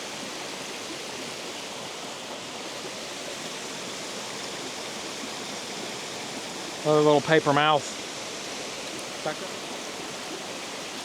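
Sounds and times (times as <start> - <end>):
water pouring over a spillway: 0.0 - 11.0.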